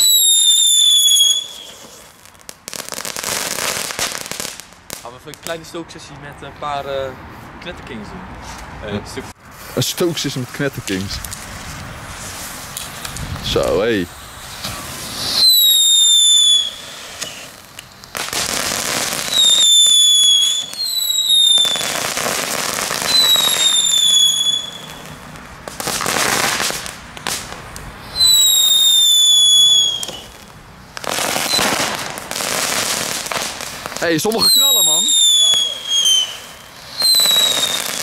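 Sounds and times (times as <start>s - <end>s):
firework whistles: 0.0s - 4.7s, 12.2s - 38.0s
firework crackling hiss: 0.0s - 5.8s, 9.4s - 38.0s.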